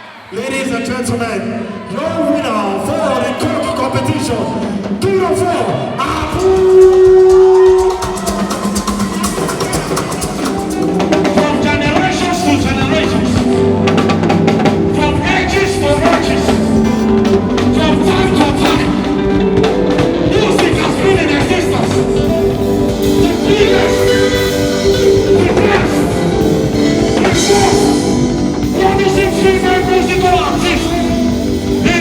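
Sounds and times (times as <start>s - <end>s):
drum kit beat: 4.7s - 32.0s
person singing: 6.1s - 32.0s.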